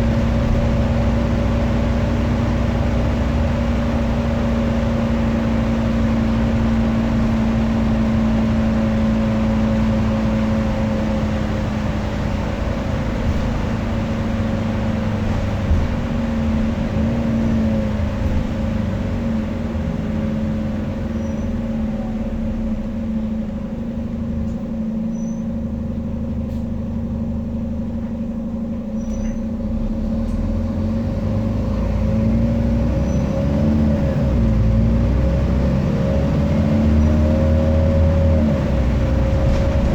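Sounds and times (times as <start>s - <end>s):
bus engine whining: 0.0s - 39.9s.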